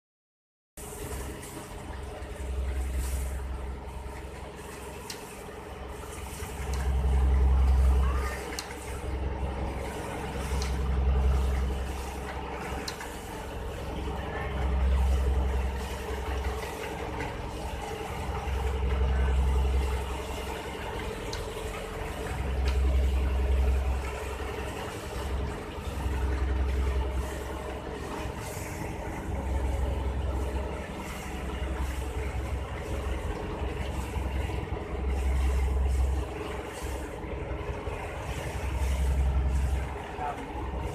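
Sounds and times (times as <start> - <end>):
boat engine droning: 0.8 - 40.9
deep rumble: 0.8 - 40.9.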